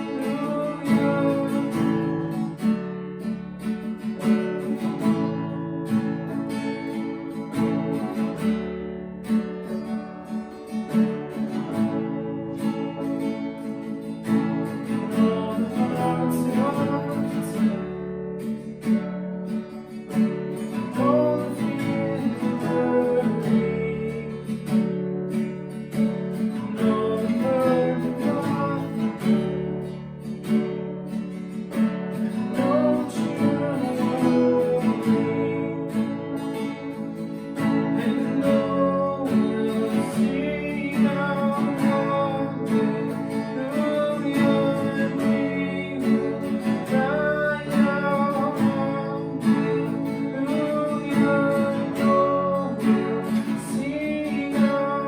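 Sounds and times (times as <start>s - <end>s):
person singing: 0.0s - 8.4s, 9.5s - 30.7s, 31.6s - 55.0s
strummed acoustic guitar: 0.0s - 55.0s.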